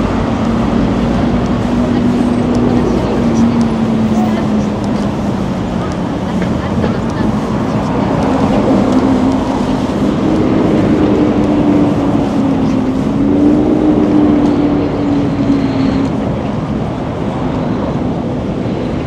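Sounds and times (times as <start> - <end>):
traffic noise rushing: 0.0 - 19.0
vehicle engine droning: 0.0 - 19.0.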